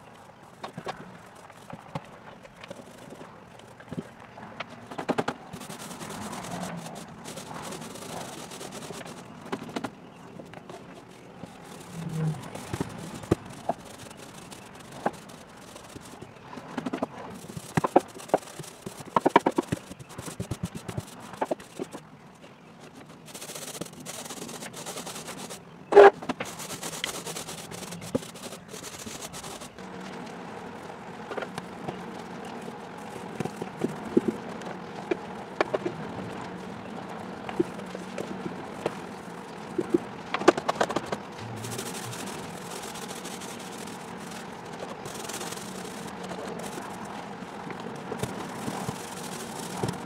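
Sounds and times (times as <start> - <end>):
paint roller and brush clicks: 0.0 - 22.0, 22.8 - 30.4, 31.3 - 50.0.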